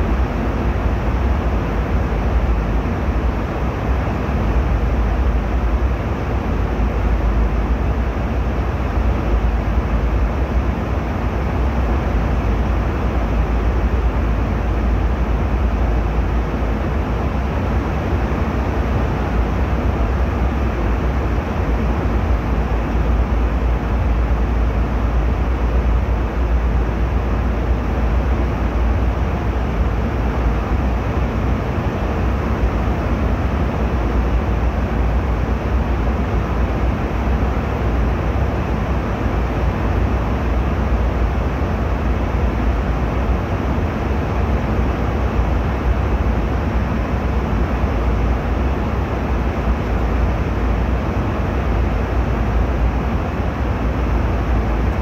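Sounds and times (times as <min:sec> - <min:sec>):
airliner cabin rumble and hiss: 0:00.0 - 0:55.0.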